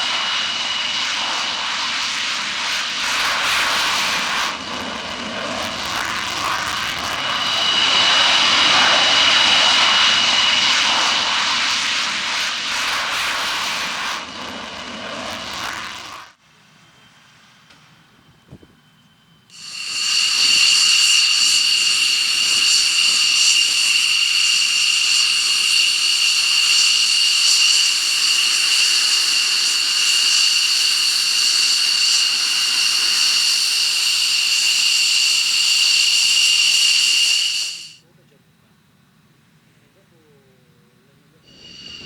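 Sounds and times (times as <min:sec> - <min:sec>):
jet engine high-pitched whine: 0:00.0 - 0:38.1, 0:41.3 - 0:42.0.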